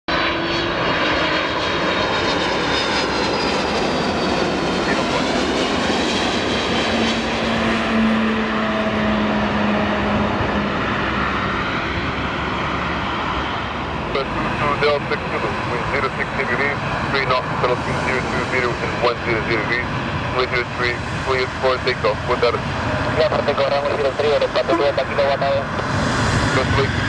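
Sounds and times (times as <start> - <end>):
jet airliner passing low: 0.1 - 27.0.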